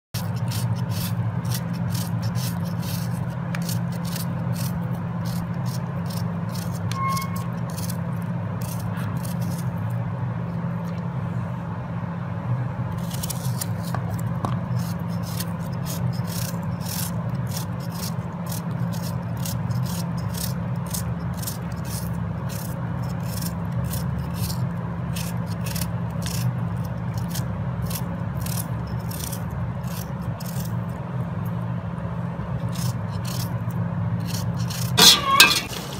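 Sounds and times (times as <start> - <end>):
knife slicing onion: 0.2 - 10.0, 13.0 - 30.9, 32.5 - 35.9.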